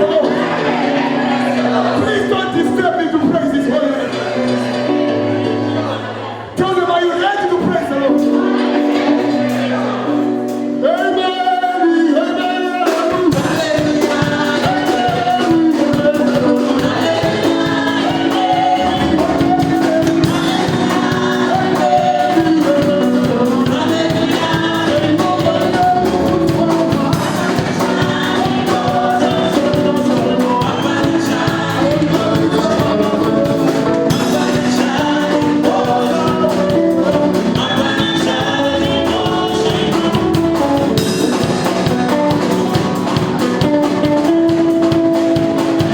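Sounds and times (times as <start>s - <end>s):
live gospel singing over band: 0.0s - 45.9s.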